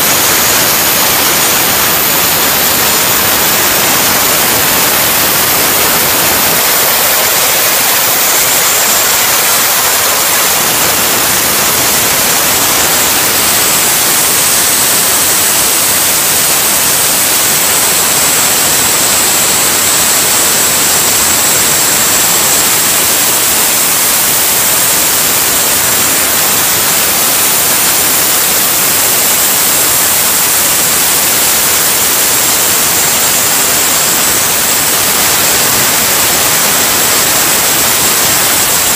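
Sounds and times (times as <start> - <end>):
gas turbine rushing noise: 0.0 - 38.9
thin high whine: 0.0 - 38.9.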